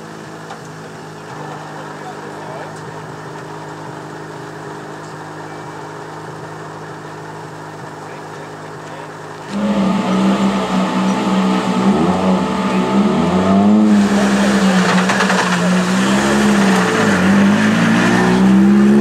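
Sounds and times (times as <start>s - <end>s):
engine drone: 0.0s - 19.0s
rally car high-revving: 0.0s - 19.0s.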